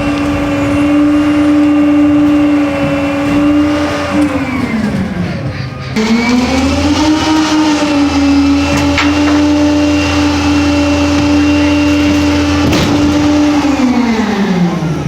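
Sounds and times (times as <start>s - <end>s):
garbage truck engine revving: 0.0s - 15.0s.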